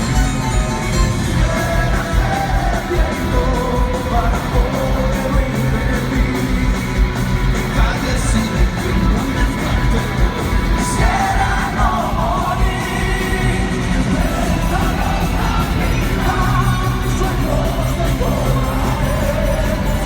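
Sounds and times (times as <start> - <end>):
live rock band playing: 0.0 - 20.0
person singing: 1.1 - 7.0, 7.6 - 20.0.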